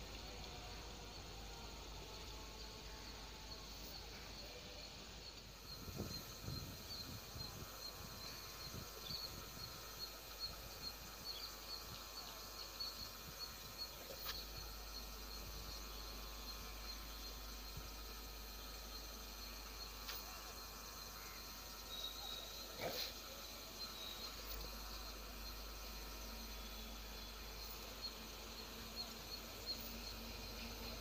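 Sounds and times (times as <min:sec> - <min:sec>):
insect chirping high pips: 0:00.0 - 0:31.0.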